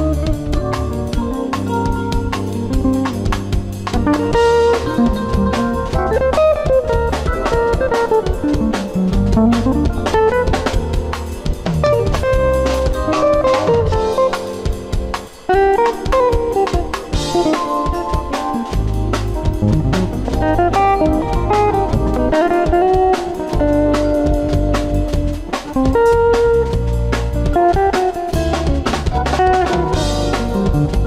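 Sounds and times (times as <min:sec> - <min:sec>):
backing track with drum kit: 0:00.0 - 0:31.0
electric guitar fast lines: 0:00.0 - 0:31.0.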